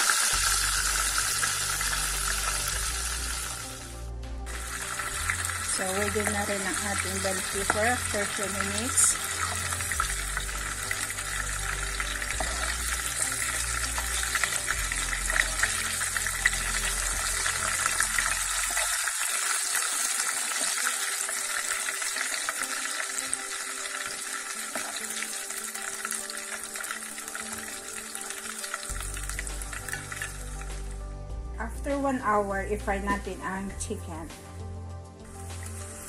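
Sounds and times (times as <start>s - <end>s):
pepper sizzling in hot oil: 0.0s - 30.9s, 35.3s - 36.0s.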